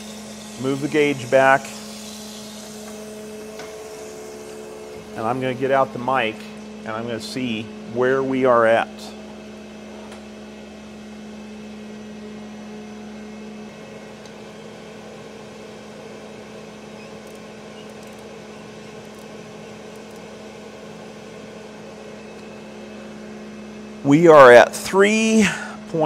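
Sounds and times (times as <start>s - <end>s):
machine hum with low tone: 0.0s - 26.0s.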